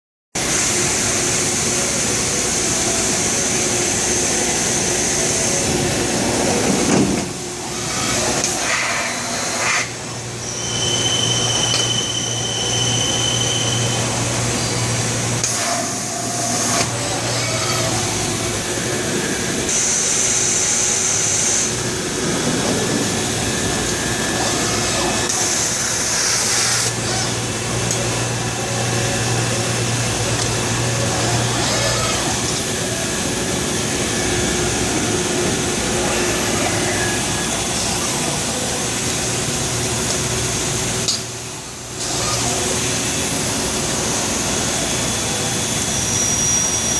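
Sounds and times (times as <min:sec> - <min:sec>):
machinery running: 0:00.4 - 0:46.9.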